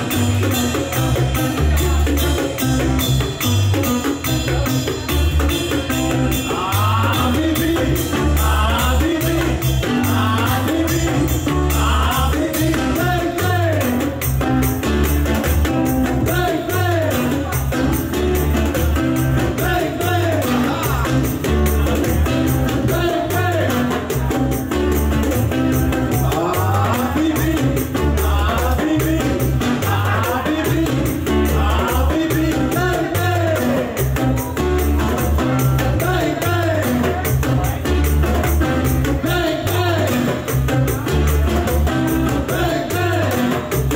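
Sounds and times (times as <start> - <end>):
acoustic guitar: 0.0 - 43.9
electric bass: 0.0 - 43.9
hand drums: 0.0 - 43.9
man singing: 0.0 - 43.9.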